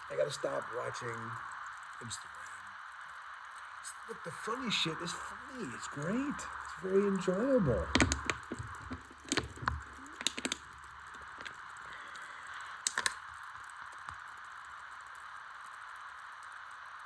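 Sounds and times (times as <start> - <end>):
sharp drips: 0.0 - 16.8
rain patter: 0.0 - 17.0.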